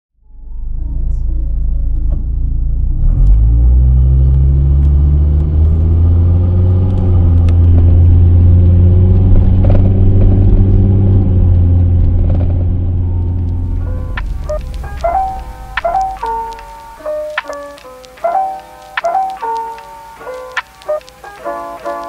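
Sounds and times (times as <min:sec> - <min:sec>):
car engine and road noise: 0:00.3 - 0:22.0.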